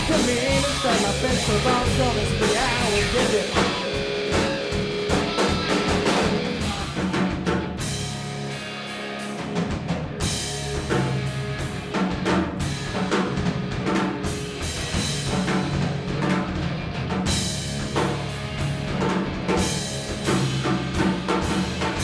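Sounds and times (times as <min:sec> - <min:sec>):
drum kit hitting hard: 0:00.0 - 0:08.6, 0:09.2 - 0:22.0
rock band playing: 0:00.0 - 0:22.0.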